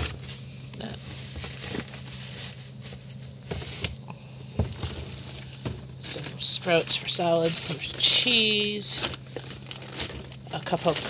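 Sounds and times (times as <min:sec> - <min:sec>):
plastic bags rustling: 0:00.0 - 0:11.0
steady low hum: 0:00.0 - 0:11.0.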